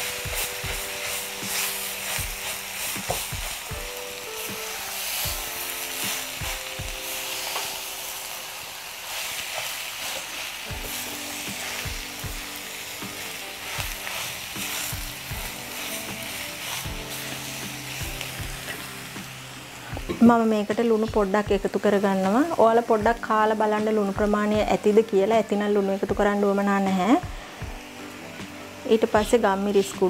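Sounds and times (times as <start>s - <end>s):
food sizzling in a pan: 0.0s - 30.0s
soft background music: 0.0s - 30.0s.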